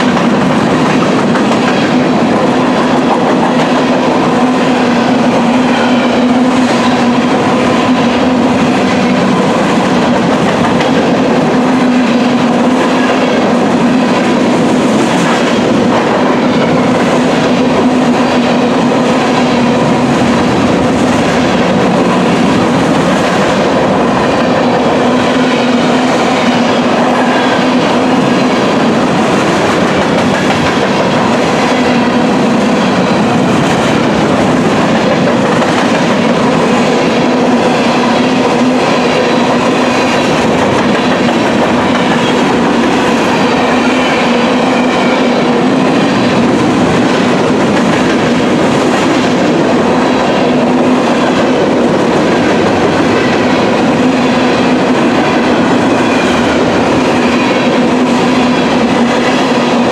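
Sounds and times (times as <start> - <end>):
train wheels clattering over rail joints: 0.0 - 59.9.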